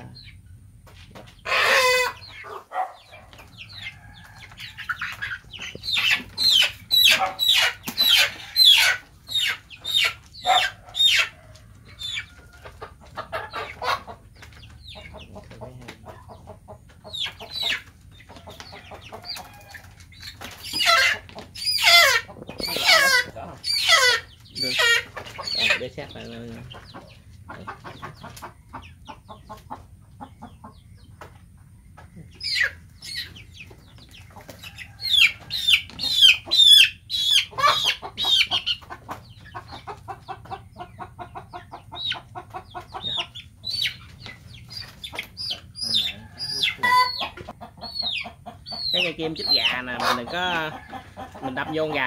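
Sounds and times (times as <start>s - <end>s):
chickens squawking and clucking: 0.0s - 52.0s.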